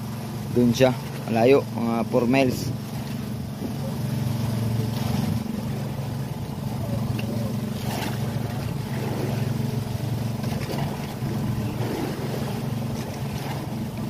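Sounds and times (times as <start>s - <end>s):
boat engine humming: 0.0s - 14.0s
wind and water wash: 0.0s - 14.0s.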